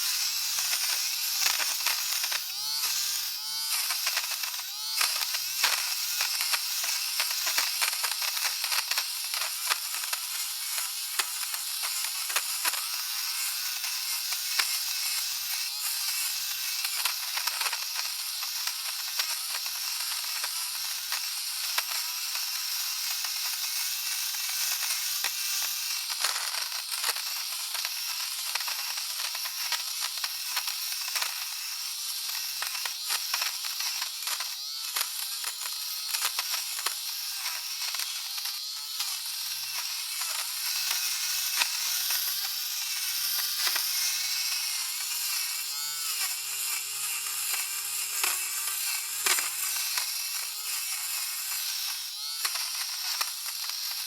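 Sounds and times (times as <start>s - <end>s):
electric fabric shaver buzzing: 0.0s - 54.0s.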